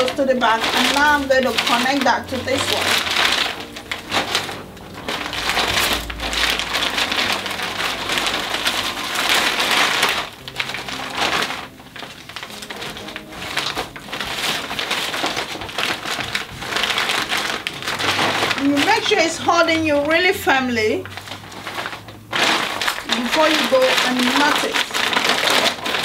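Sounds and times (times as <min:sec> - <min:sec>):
stiff fabric rustling: 0:00.0 - 0:26.0.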